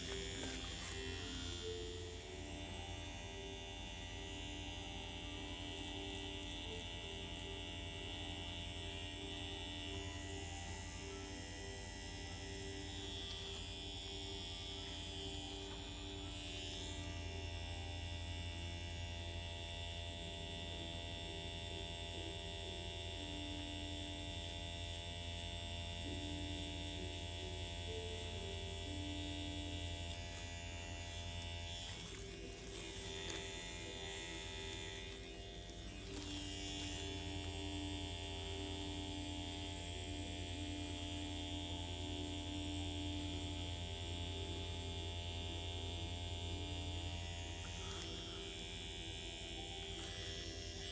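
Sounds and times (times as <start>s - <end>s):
tattoo pen buzzing: 0.0s - 50.9s.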